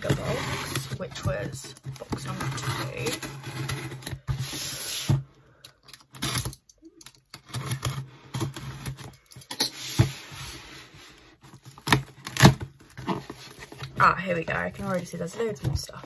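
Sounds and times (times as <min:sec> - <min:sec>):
rustling and scratching: 0:00.0 - 0:05.3, 0:07.4 - 0:16.0.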